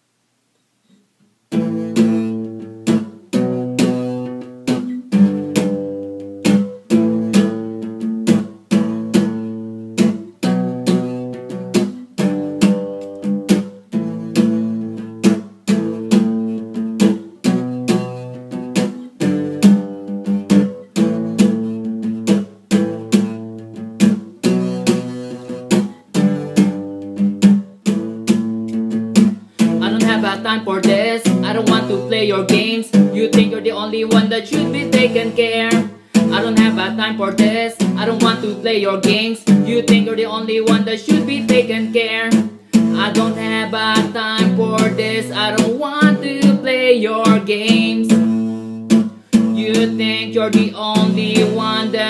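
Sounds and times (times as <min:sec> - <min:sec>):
acoustic guitar strumming: 0:00.8 - 0:52.0.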